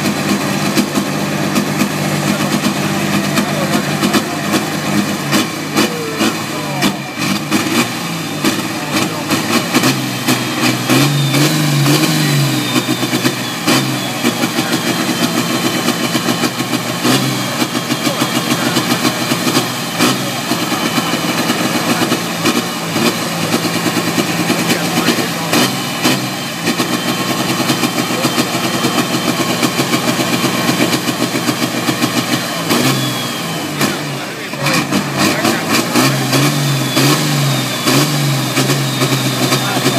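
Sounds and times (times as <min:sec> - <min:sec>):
engine revving: 0:00.0 - 0:39.9
tractor diesel engine idling: 0:00.0 - 0:39.9.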